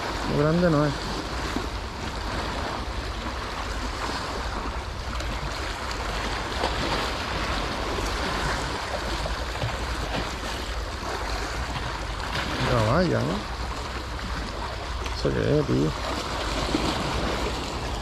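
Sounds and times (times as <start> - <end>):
sea water splashing on rocks: 0.0 - 18.0.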